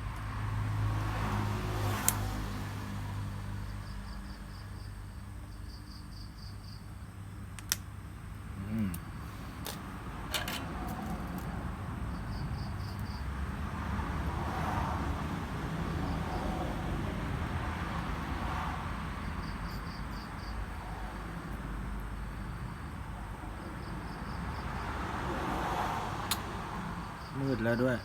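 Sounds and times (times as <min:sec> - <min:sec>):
vehicle passing rumble: 0:00.0 - 0:04.2, 0:08.5 - 0:28.0.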